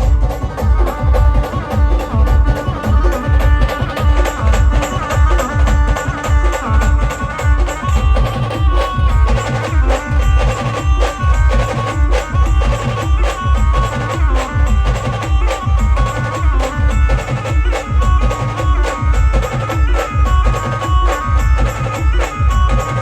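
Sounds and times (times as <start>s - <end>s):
heavy drum beats: 0.0s - 23.0s.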